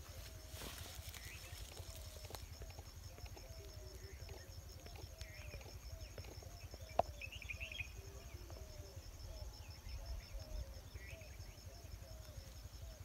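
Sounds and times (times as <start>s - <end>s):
small birds chirping: 0.1s - 13.0s.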